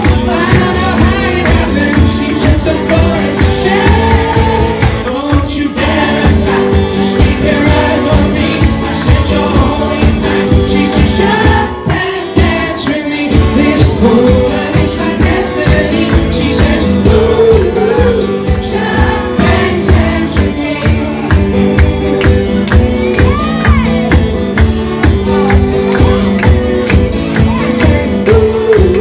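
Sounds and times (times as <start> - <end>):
live band playing pop song: 0.0 - 29.0
person singing: 0.0 - 29.0
steady drum beat: 0.0 - 29.0.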